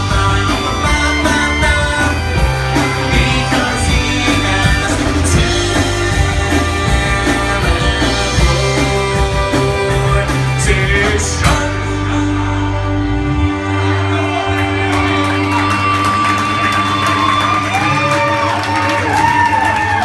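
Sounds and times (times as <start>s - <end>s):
person singing: 0.0s - 18.0s
live rock band playing: 0.0s - 20.0s.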